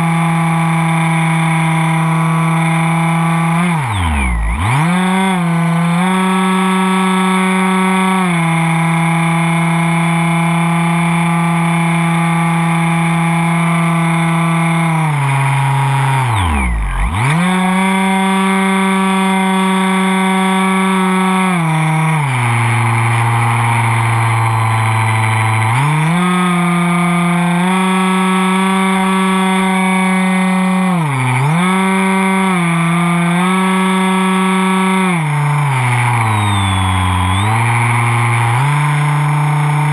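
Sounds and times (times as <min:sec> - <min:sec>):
model airplane motor whine: 0:00.0 - 0:39.9.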